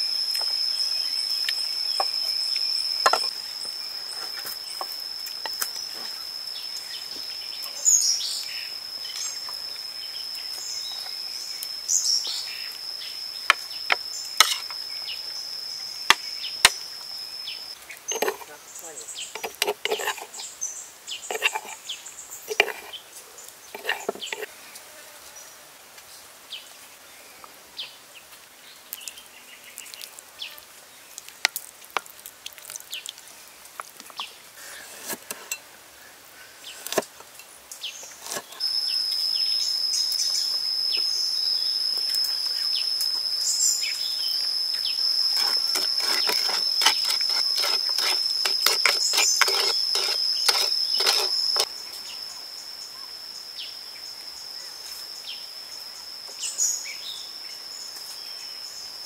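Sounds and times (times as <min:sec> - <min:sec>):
insect shrill drone: 0:00.0 - 0:28.0, 0:28.6 - 0:59.0.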